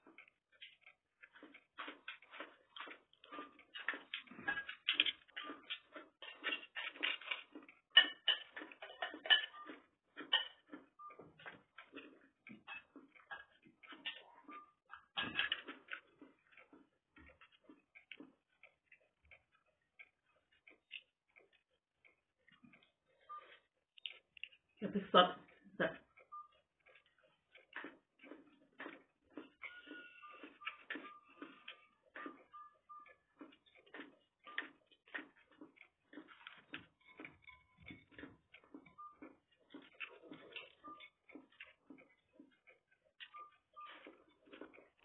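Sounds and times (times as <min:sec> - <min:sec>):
person chewing food: 0:00.0 - 0:24.8, 0:25.4 - 0:45.0
fingers picking food from plates: 0:00.0 - 0:45.0.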